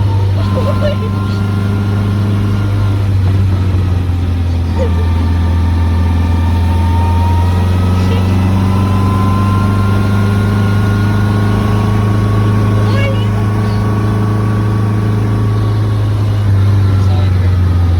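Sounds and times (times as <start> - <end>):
car engine droning: 0.0 - 17.9.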